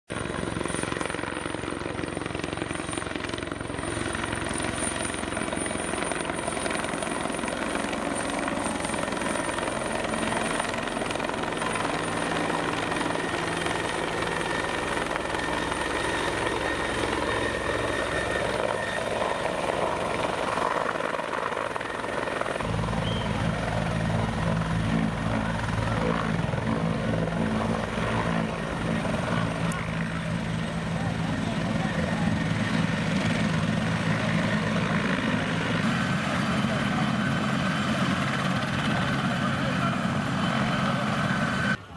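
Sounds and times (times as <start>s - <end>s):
helicopter rotor and turbine: 0.1s - 41.9s
high turbine whine: 0.6s - 41.9s.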